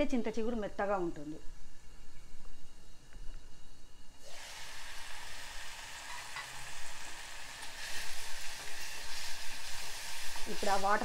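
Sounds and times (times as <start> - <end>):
leaves frying in oil: 0.1 - 11.0.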